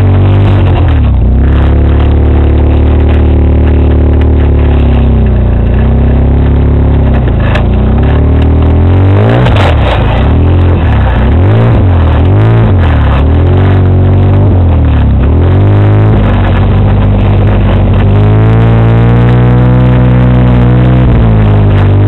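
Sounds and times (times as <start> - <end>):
off-road motorcycle engine: 0.0 - 22.0.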